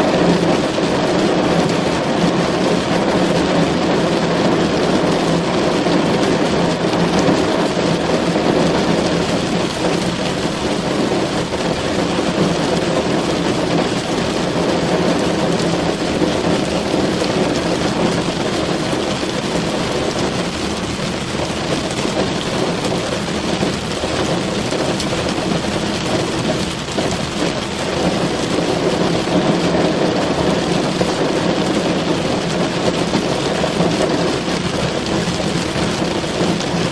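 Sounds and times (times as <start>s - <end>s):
rain on a car: 0.0s - 36.9s.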